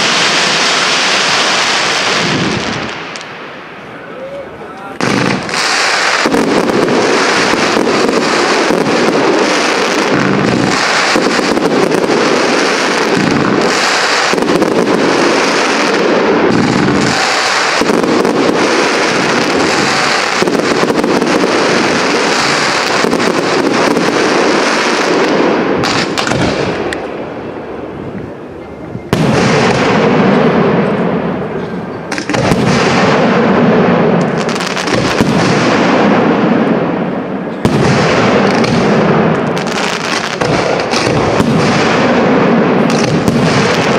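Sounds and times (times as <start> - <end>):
fireworks bangs and crackle: 0.0 - 43.9.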